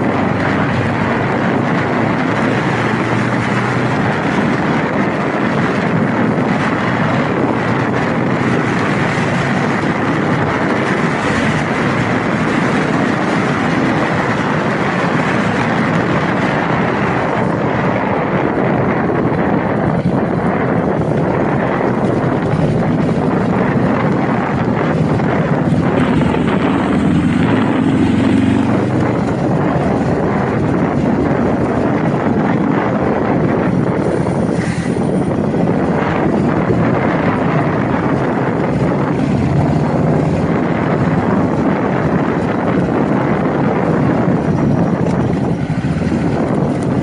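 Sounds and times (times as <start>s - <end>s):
motorcycle engine running: 0.0s - 47.0s
wind rush over microphone: 0.0s - 47.0s.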